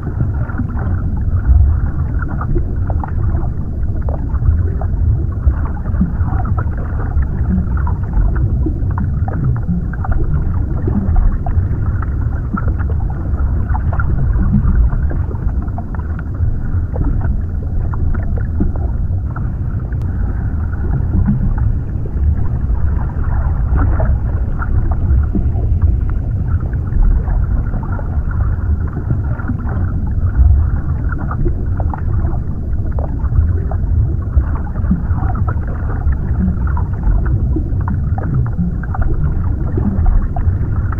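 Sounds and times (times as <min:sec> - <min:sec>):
underwater rumble of water: 0:00.0 - 0:40.9.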